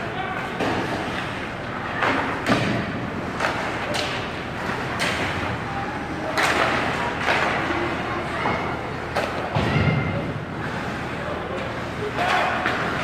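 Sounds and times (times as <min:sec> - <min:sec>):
hockey pucks and sticks knocking: 0:00.4 - 0:05.6, 0:06.2 - 0:10.0, 0:11.5 - 0:13.0.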